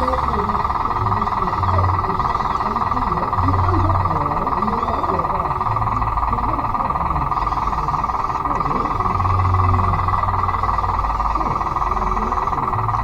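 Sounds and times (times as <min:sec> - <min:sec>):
toy bulldozer gear whine: 0:00.0 - 0:13.0.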